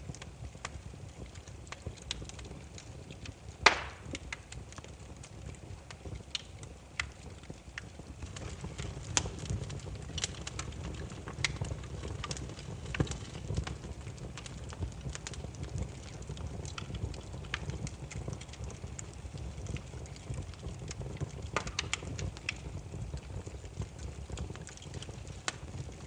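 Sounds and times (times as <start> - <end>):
logs crackling and popping: 0.0 - 26.0
low steady fire rumble: 0.0 - 26.0.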